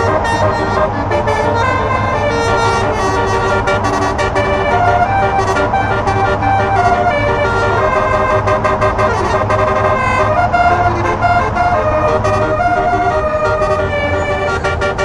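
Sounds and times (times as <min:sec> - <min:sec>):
low engine rumble: 0:00.0 - 0:15.0
multi-tone truck horns playing tune: 0:00.0 - 0:15.0.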